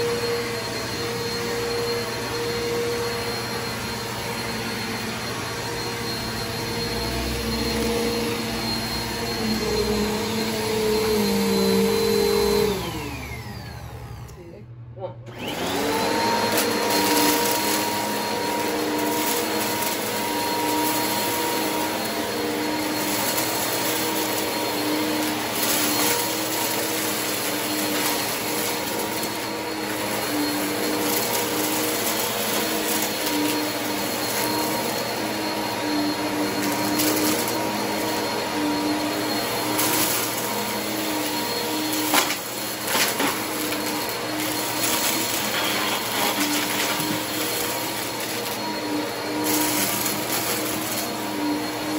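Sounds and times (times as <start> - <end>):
vacuum cleaners running: 0.0 - 51.9.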